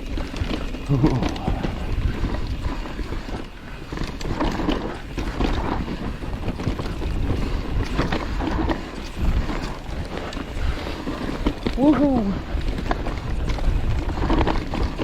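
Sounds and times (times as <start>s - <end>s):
bike knocking and rattling: 0.0s - 15.0s
bike tyres over dirt and rock: 0.0s - 15.0s
wind buffeting microphone: 0.0s - 15.0s.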